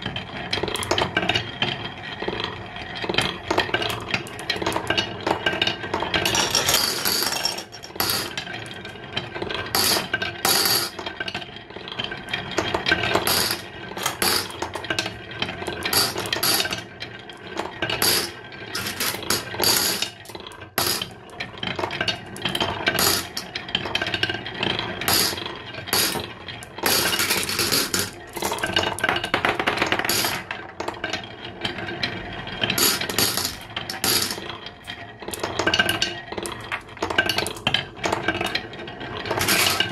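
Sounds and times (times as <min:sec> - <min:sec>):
marbles rolling on wooden track: 0:00.0 - 0:39.9.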